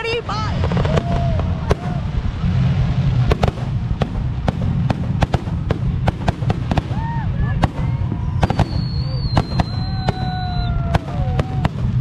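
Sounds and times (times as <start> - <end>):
fireworks bangs and cracks: 0.0 - 12.0
low rumble: 0.0 - 12.0.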